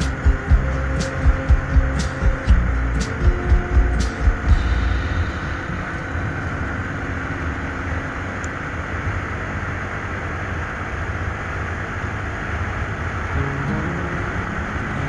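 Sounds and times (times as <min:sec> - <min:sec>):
vehicle driving on road: 0:00.0 - 0:15.0.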